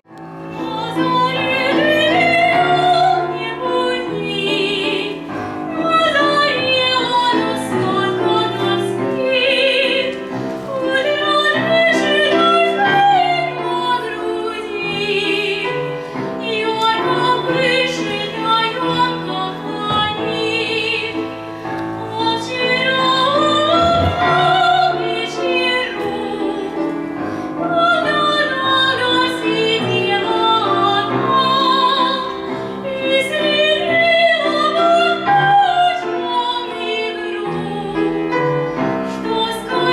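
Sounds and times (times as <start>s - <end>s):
instrumental accompaniment: 0.1s - 36.8s.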